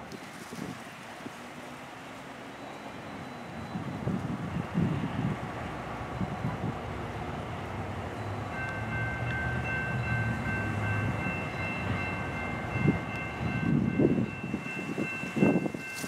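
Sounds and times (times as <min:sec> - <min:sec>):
diesel locomotive rumble: 0:00.0 - 0:16.0
crossing warning bell: 0:01.8 - 0:16.0.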